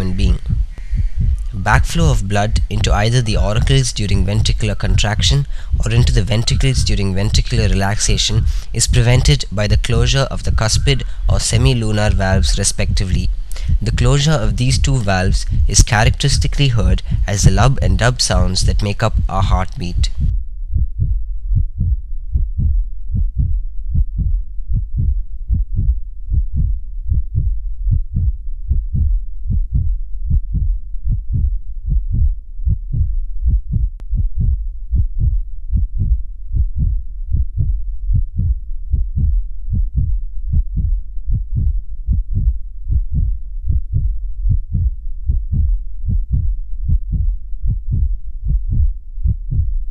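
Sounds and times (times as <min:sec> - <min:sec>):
heartbeat thuds: 0:00.0 - 0:49.9.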